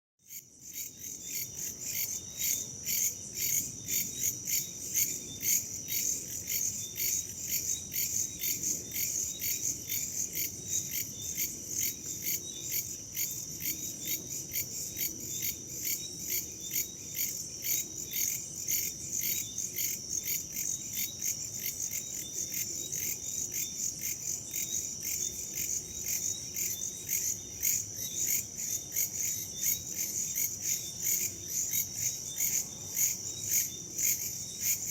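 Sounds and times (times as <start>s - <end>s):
crickets chirping: 0.3s - 34.9s.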